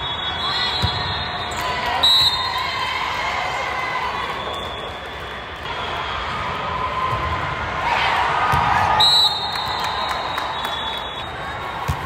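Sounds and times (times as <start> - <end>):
sports hall background hum: 0.0 - 12.0.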